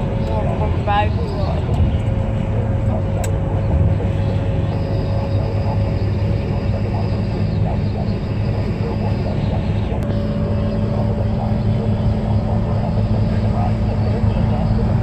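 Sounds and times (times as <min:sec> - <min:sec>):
truck road and engine drone: 0:00.0 - 0:15.0.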